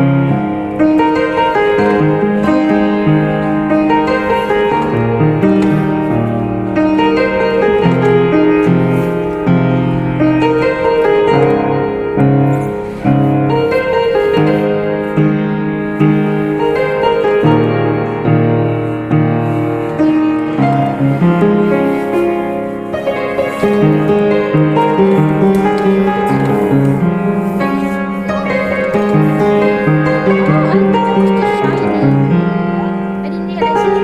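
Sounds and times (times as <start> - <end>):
solo piano music: 0.0 - 34.0.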